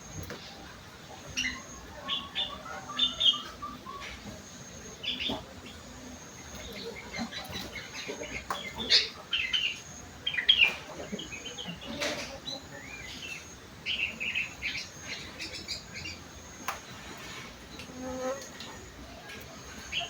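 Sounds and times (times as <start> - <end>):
bird chirping song: 0.0 - 17.9.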